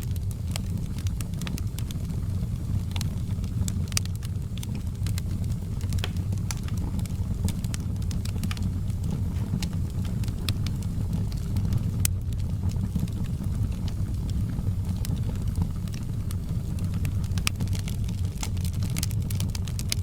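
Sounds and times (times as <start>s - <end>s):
low rumble of flames: 0.0s - 20.0s
wood fire pops and snaps: 0.0s - 20.0s.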